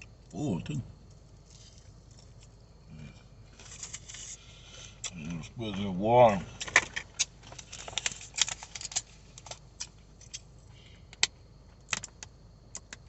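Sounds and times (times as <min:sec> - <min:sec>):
crunchy chewing of fried chicken: 0:00.0 - 0:05.6, 0:06.4 - 0:13.0.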